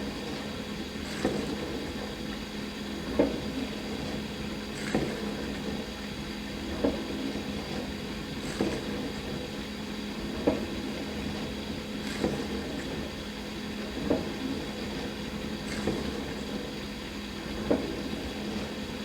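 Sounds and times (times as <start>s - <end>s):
dishwasher motor hum: 0.0s - 19.0s.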